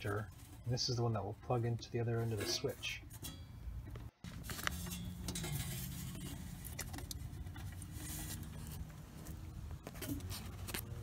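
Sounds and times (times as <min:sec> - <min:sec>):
wires rustling and scraping: 0:00.0 - 0:11.0.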